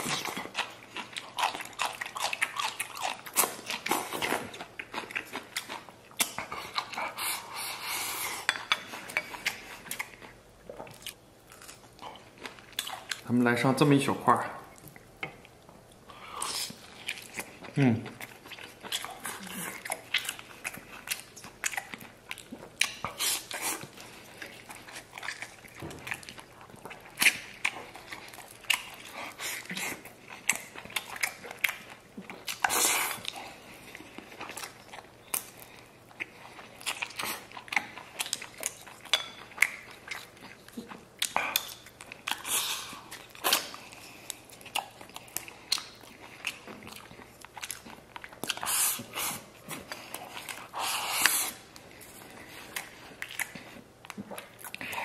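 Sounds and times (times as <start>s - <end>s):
person chewing food: 0.0s - 13.3s, 14.6s - 55.0s.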